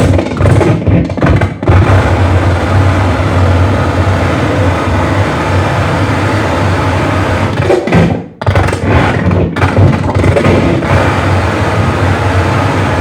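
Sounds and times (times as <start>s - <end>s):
harsh distorted electronic noise: 0.0s - 13.0s.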